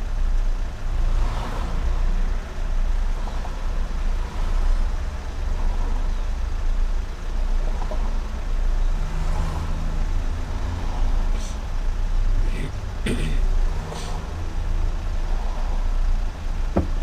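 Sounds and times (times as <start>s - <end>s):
car engine rumble: 0.0s - 17.0s
traffic: 0.0s - 17.0s.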